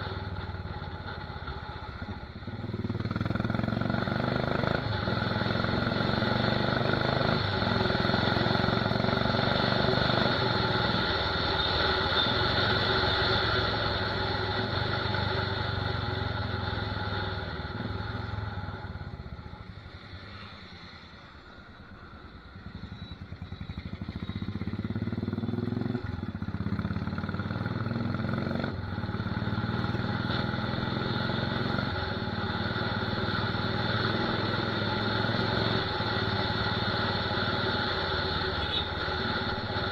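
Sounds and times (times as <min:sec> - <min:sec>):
loud motorcycle engine: 0:00.0 - 0:20.9, 0:21.8 - 0:39.9.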